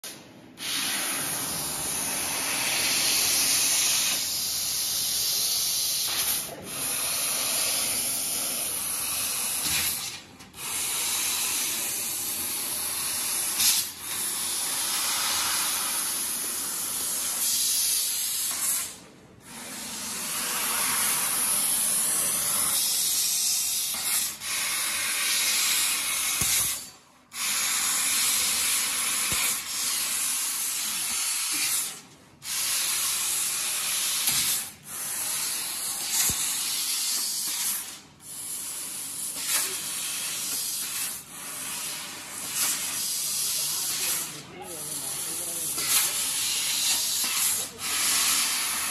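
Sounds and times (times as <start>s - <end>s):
laser cutter gas hiss: 0.0s - 48.9s.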